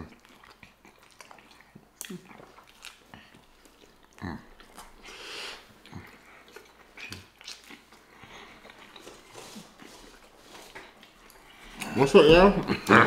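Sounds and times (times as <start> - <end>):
chewing and lip smacking: 0.0 - 12.0.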